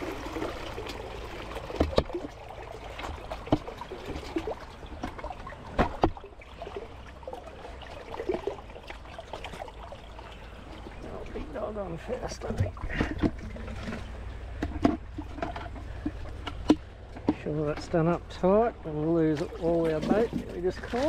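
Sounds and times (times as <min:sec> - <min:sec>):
water splashing in a bucket: 0:00.0 - 0:21.0.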